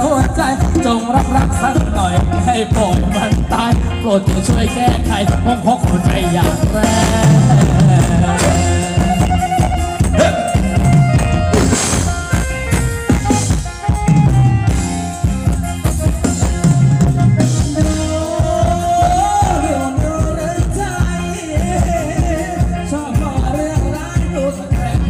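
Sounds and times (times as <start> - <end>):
drum kit beat: 0.0 - 25.0
electric guitar and bass: 0.0 - 25.0
wavering lead melody: 0.8 - 24.1.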